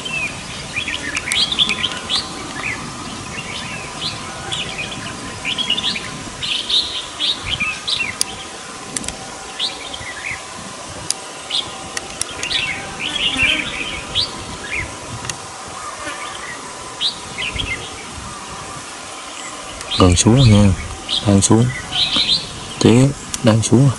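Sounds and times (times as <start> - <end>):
birds chirping: 0.0 - 23.9
faint steady hum: 0.0 - 23.9.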